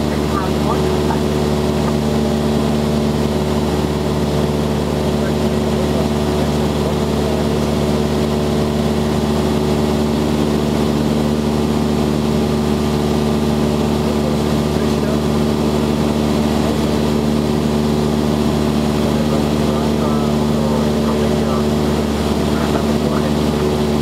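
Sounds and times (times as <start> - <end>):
airplane engine and propeller drone: 0.0 - 24.0.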